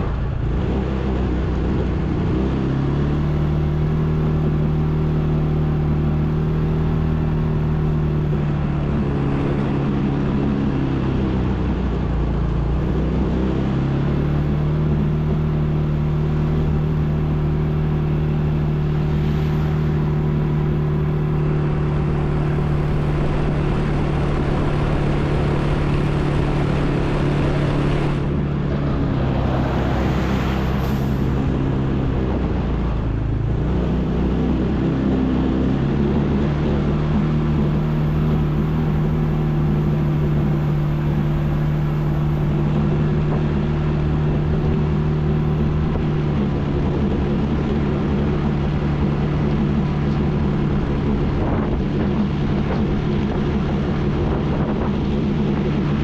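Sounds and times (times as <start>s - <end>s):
atv engine revving: 0.0s - 56.0s
track and wind noise: 0.0s - 56.0s.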